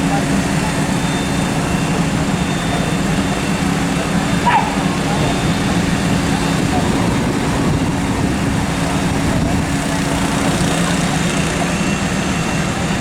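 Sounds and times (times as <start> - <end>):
fire engine motor running: 0.0 - 13.0.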